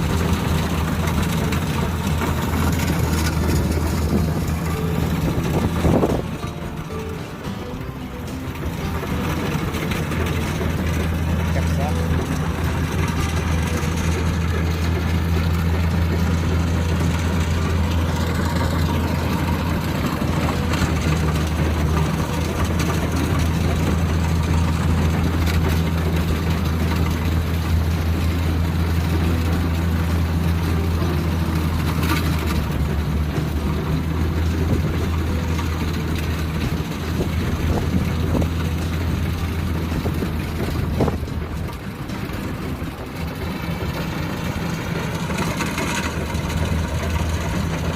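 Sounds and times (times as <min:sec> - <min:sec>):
combine harvester engine humming: 0:00.0 - 0:47.9.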